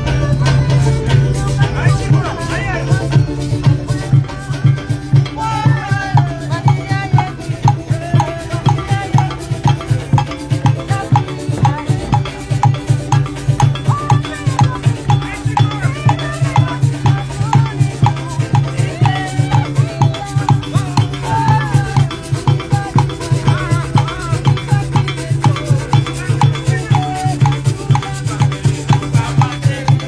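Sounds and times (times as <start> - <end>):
wavering melody line: 0.0 - 29.9
shakers and drums beat: 0.0 - 30.0.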